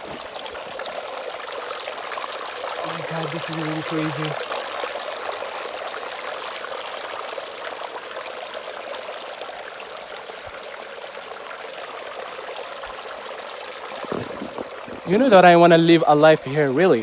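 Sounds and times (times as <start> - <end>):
fast-running river water: 0.0 - 17.0.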